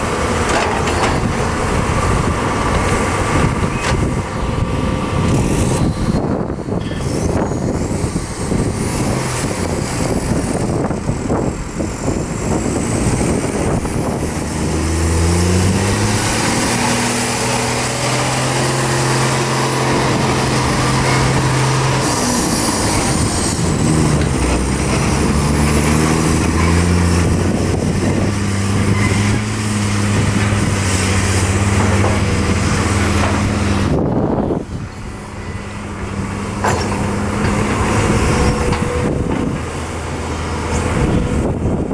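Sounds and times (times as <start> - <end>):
excavator diesel engine revving: 0.0 - 41.9.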